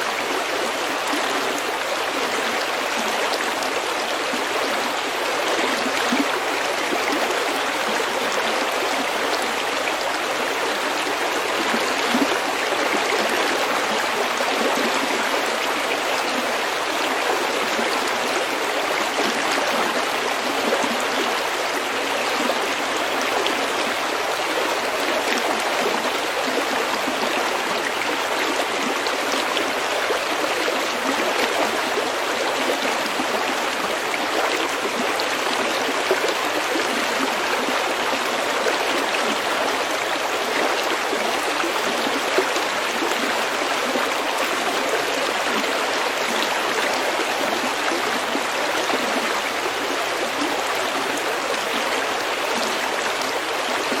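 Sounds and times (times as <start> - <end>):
stream flowing over pebbles: 0.0 - 54.0.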